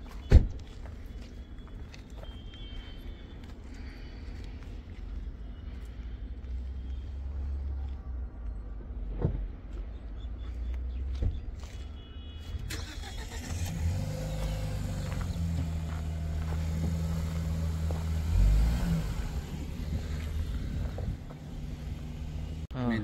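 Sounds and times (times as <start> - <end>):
vehicle engine humming: 0.2 - 23.0.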